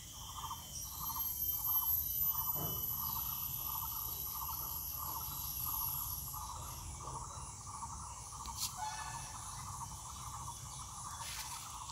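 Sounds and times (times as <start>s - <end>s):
insect chirping in trilled pulses: 0.0s - 11.9s.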